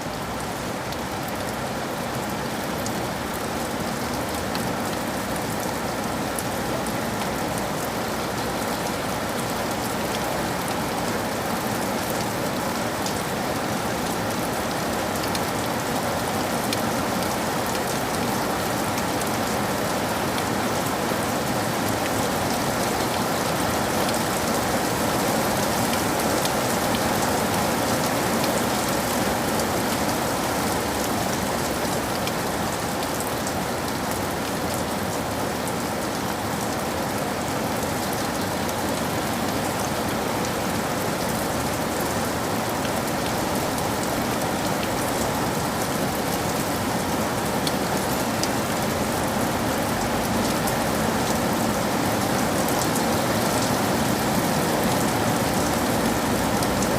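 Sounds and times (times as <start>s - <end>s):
rain falling: 0.0s - 56.9s
raindrops pattering on a surface: 0.0s - 56.9s.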